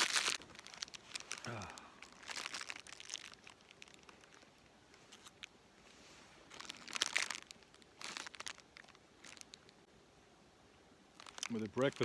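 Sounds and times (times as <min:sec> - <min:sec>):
plastic wrapper crinkling: 0:00.0 - 0:05.5, 0:06.5 - 0:09.8, 0:11.2 - 0:12.0.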